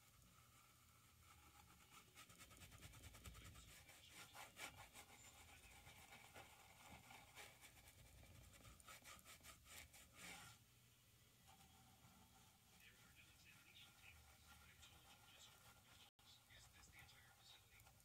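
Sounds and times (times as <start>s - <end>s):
paintbrush scratching on canvas: 0.0s - 10.6s, 11.4s - 18.0s.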